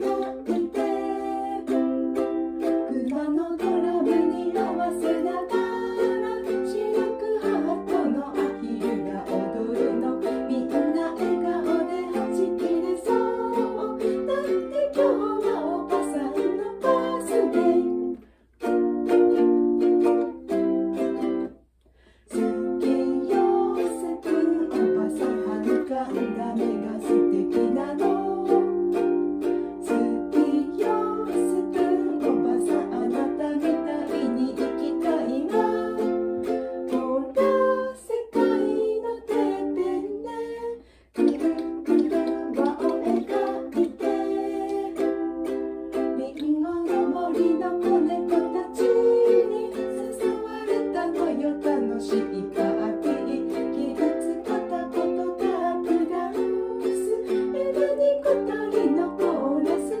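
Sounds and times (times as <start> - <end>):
woman singing: 0.0 - 18.2, 22.3 - 60.0
ukuleles strummed: 0.0 - 60.0.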